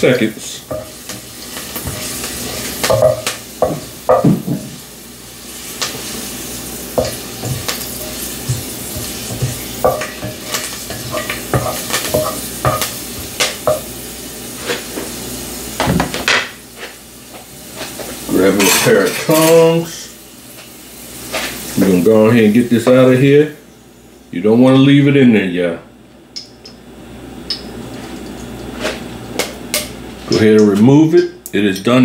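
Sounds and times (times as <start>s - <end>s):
herbs sizzling in hot oil: 0.0s - 24.9s, 26.4s - 31.8s.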